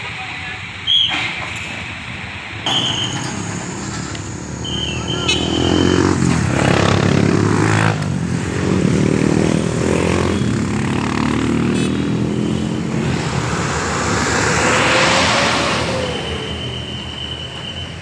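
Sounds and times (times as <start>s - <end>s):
vehicle engines running: 0.0s - 18.0s
vehicle tyre noise passing: 2.6s - 18.0s.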